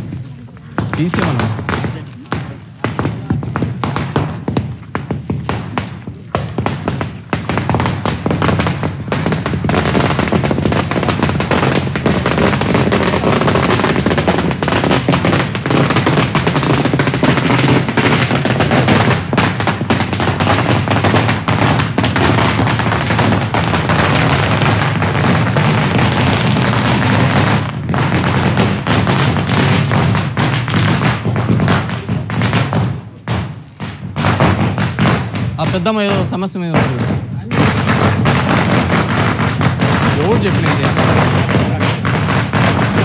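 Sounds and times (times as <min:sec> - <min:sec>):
firecrackers cracking rapidly: 0:00.0 - 0:43.0.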